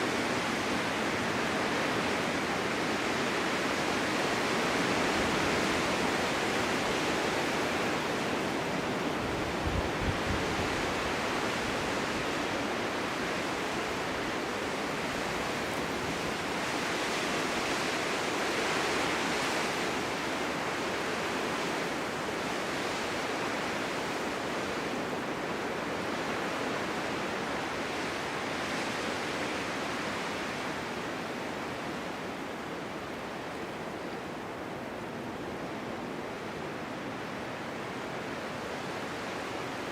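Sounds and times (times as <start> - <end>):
wind blowing through forest: 0.0 - 39.9.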